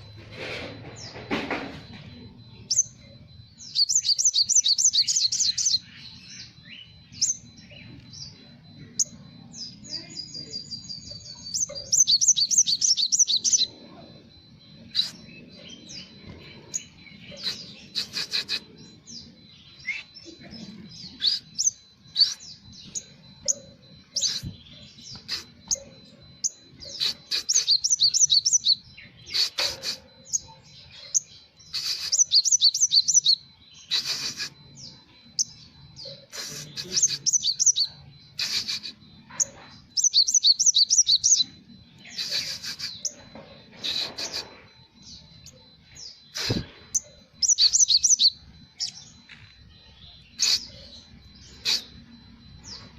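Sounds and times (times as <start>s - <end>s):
sunbird singing high chirping trills: 0.8s - 52.9s.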